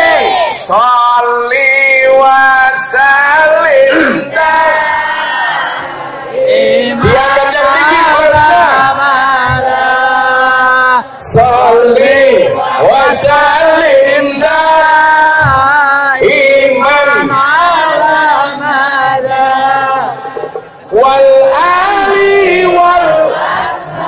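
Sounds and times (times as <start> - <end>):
amplified devotional chanting: 0.0 - 24.0.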